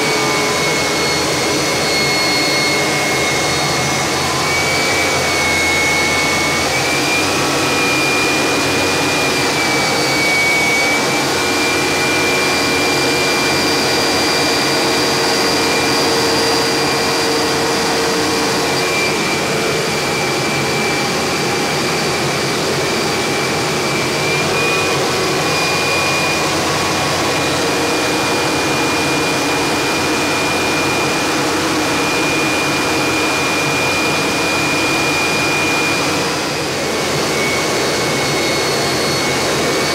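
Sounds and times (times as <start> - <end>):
jet engine rushing and whining: 0.0 - 39.9.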